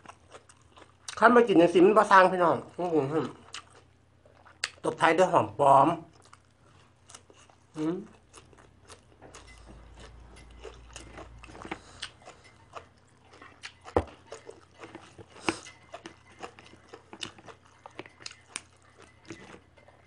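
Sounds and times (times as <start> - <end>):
person chewing crunchy food: 0.0 - 1.8, 2.7 - 5.0, 6.1 - 20.0.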